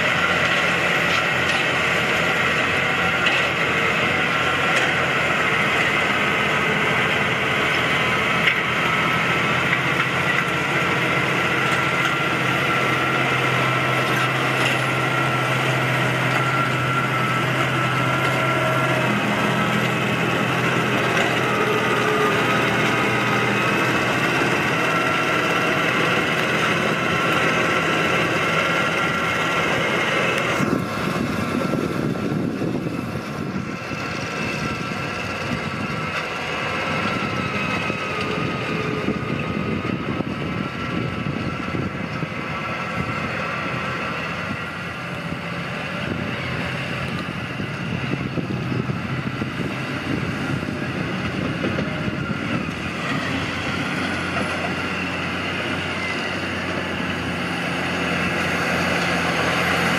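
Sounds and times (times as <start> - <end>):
loader wagon chopping grass: 0.0 - 59.9
tractor diesel engine under load: 0.0 - 59.9.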